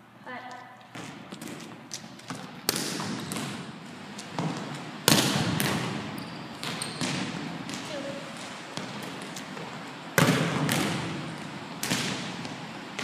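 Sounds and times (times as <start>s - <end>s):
volleyball impacts in gym: 0.3s - 13.0s.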